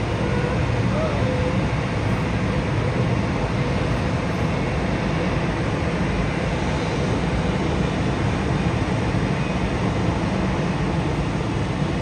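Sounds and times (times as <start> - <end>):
airport noise rumble: 0.0 - 12.0.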